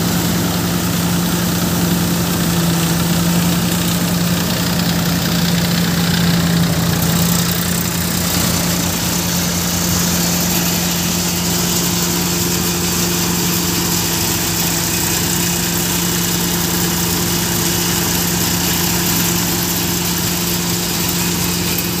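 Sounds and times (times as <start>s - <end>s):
threshing machine humming and rushing: 0.0s - 22.0s
tractor engine running: 0.0s - 22.0s.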